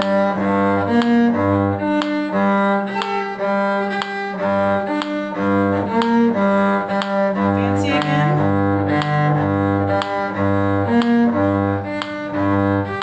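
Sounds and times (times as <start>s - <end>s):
bowed string arpeggio: 0.0s - 13.0s.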